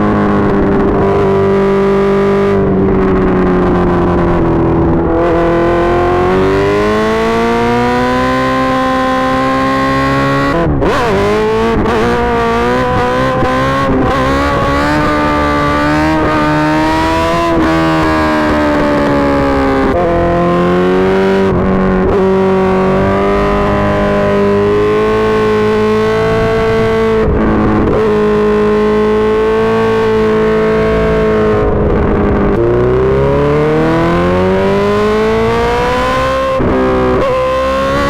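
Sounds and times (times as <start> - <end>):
motorcycle engine running loudly: 0.0 - 38.0.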